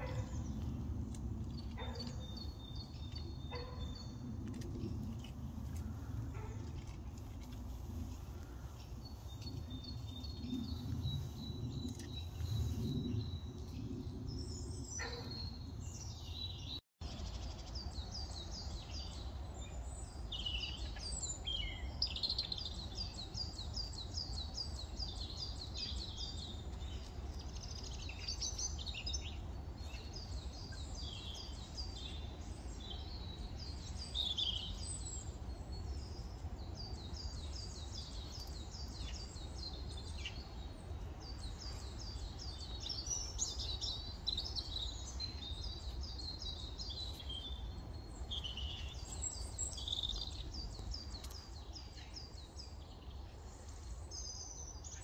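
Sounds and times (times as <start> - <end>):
small songbirds singing: 0.0 - 55.0.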